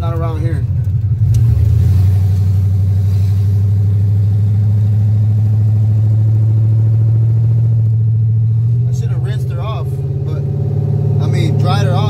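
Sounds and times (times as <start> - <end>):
truck engine droning inside cab: 0.0 - 12.0.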